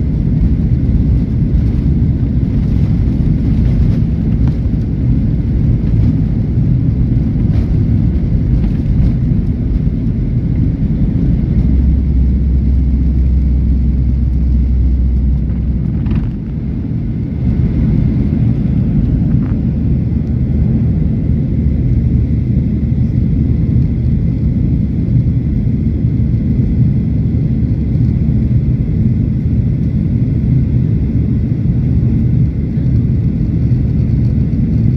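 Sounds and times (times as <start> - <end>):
jet engines at takeoff power: 0.0 - 34.9.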